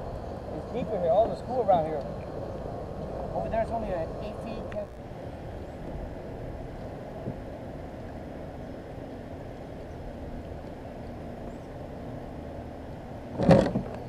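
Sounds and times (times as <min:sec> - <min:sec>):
kayak rushing through water: 0:00.0 - 0:14.0.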